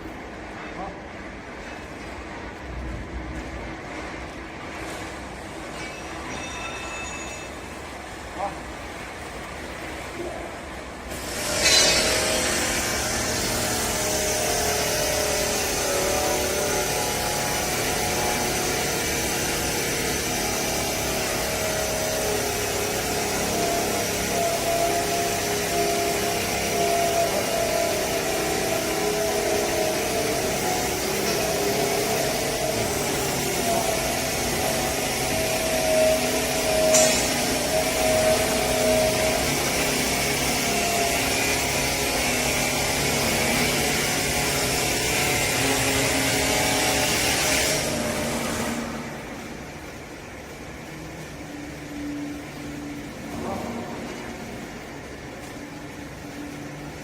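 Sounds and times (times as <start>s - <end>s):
baler machine running: 11.4s - 57.0s.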